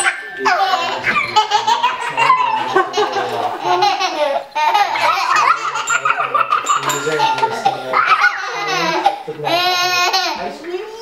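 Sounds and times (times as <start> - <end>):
toddlers laughing: 0.0 - 11.0.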